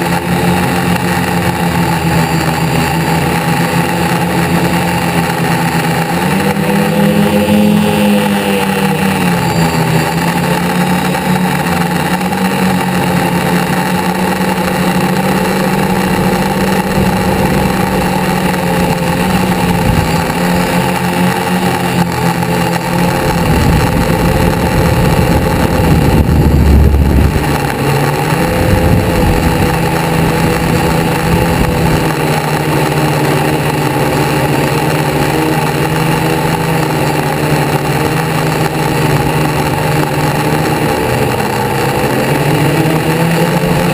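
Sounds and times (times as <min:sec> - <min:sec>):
car engines running: 0:00.0 - 0:43.9.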